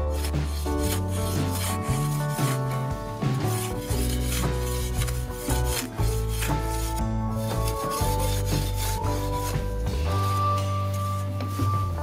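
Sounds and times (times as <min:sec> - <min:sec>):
background music with bass line: 0:00.0 - 0:12.0
metal spade scraping soil: 0:00.0 - 0:12.0.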